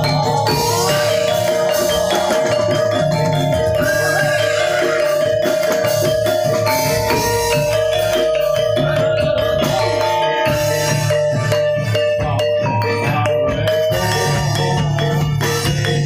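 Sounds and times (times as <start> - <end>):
metal-keyed instruments playing: 0.0 - 16.0.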